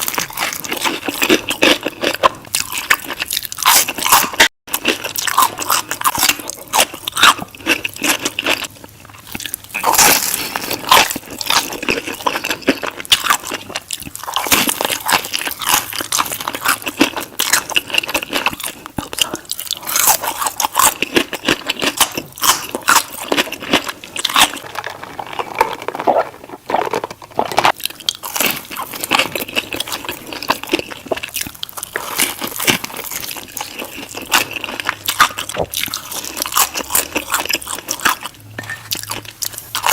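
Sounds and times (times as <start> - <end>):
crunchy bites and chewing: 0.0 - 39.9.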